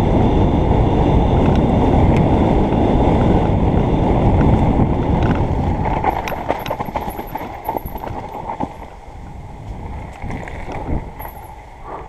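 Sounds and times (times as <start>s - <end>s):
wind rushing over microphone: 0.0s - 12.0s
bike rattling and clicking: 1.3s - 11.8s.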